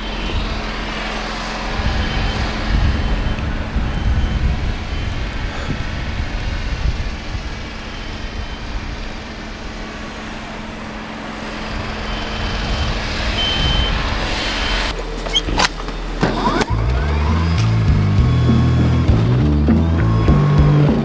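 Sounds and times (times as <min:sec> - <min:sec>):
vehicle engine and traffic: 0:00.0 - 0:21.0.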